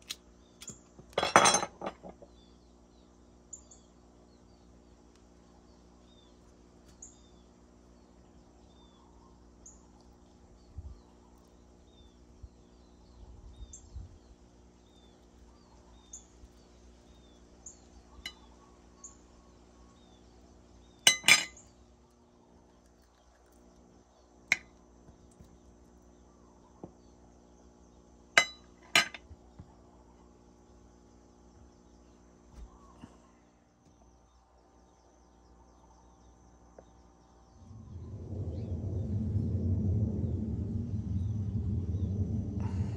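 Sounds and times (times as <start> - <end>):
steady low hum: 0.0 - 42.9
birds chirping faintly: 2.0 - 42.9.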